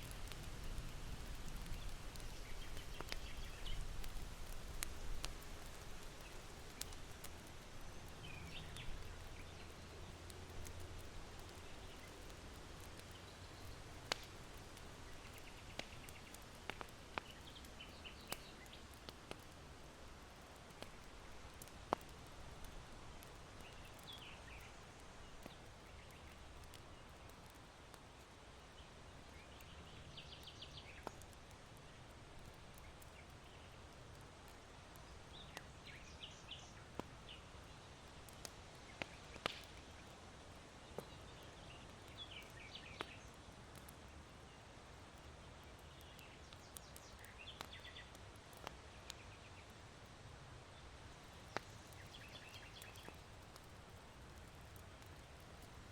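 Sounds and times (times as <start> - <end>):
small birds chirping: 0.0 - 49.8, 50.7 - 55.9
charcoal fire popping: 0.0 - 55.9
faint wind hiss: 0.0 - 55.9.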